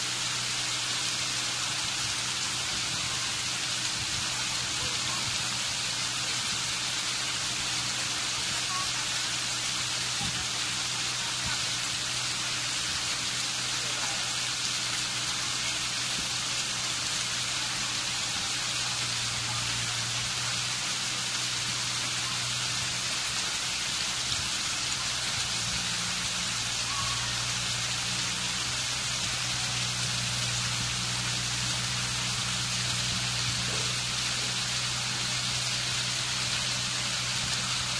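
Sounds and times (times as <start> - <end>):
water splashing over stones: 0.0 - 37.9.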